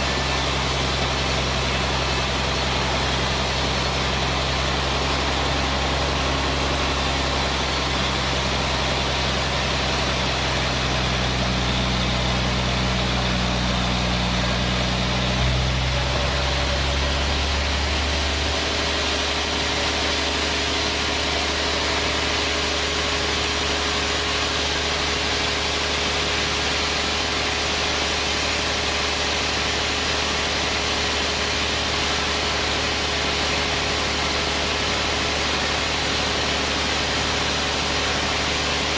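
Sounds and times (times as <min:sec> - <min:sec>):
band saw machinery running: 0:00.0 - 0:38.9.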